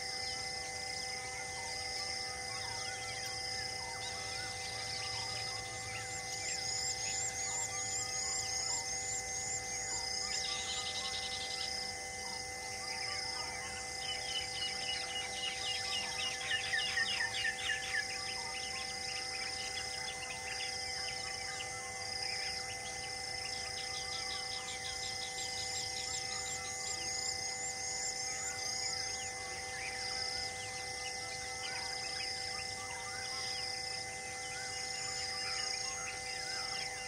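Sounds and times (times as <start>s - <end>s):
insect drone: 0.0s - 37.0s.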